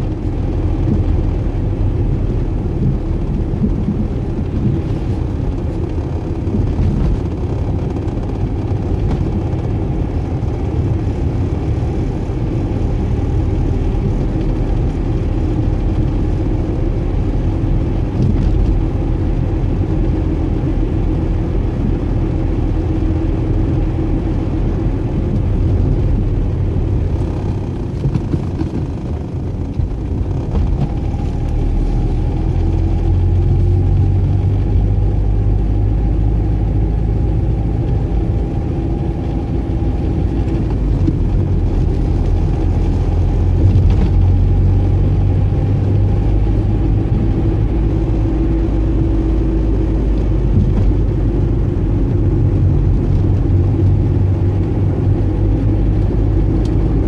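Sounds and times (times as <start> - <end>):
car engine hum: 0.0 - 57.0.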